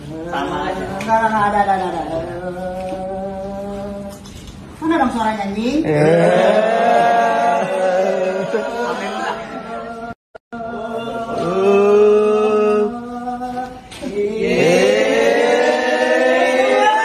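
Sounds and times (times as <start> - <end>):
voices singing unaccompanied: 0.0 - 4.3, 5.9 - 17.0.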